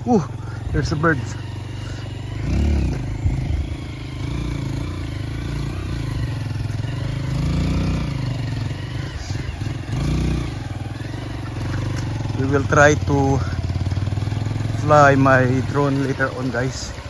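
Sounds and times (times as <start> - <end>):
small motorcycle engine revving: 0.0 - 17.0.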